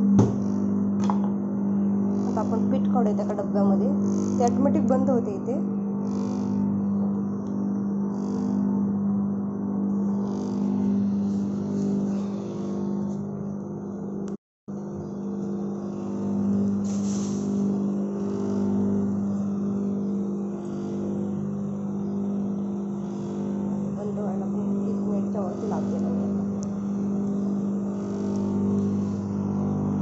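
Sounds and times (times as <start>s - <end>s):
flour mill motor humming: 0.0s - 30.0s.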